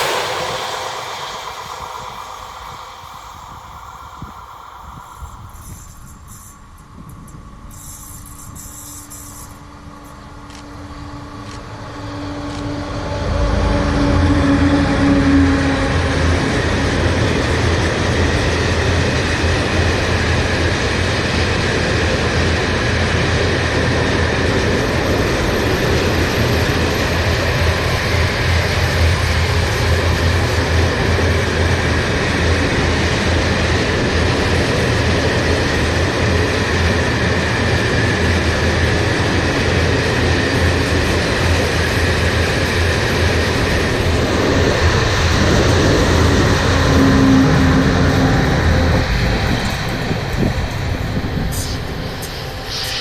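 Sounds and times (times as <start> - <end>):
electric train passing: 0.0 - 53.0
wheel and rail noise: 0.0 - 53.0.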